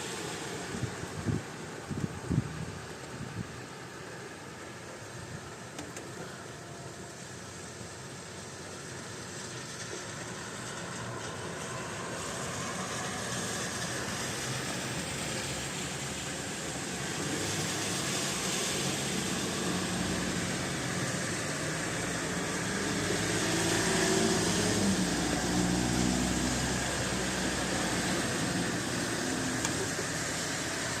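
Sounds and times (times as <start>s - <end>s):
rain and wet tyres hissing: 0.0s - 31.0s.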